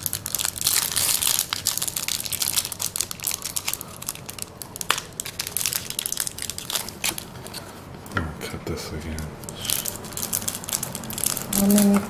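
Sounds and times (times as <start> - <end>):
foil wrapper crinkling: 0.0 - 7.8, 9.4 - 12.0.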